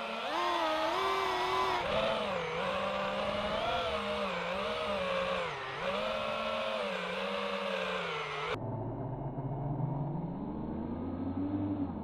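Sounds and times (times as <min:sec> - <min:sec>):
drone motors whining: 0:00.0 - 0:12.0
low hum climbing in pitch: 0:00.0 - 0:12.0.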